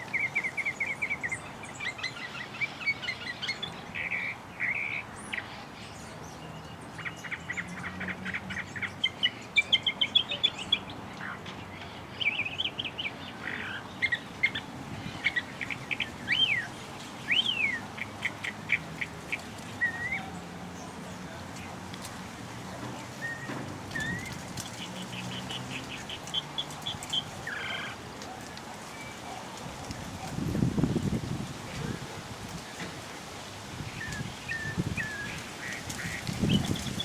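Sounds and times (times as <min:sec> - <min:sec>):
small birds chirping: 0:00.0 - 0:22.1, 0:22.7 - 0:32.0, 0:33.8 - 0:37.0.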